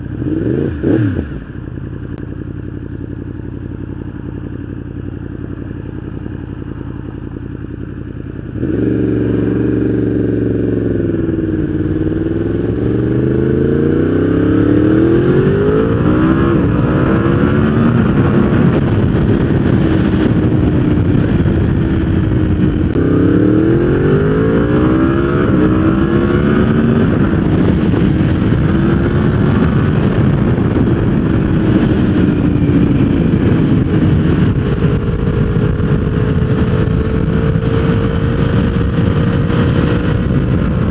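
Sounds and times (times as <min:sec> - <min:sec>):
motorcycle engine revving hard: 0:00.0 - 0:02.0, 0:06.9 - 0:40.9.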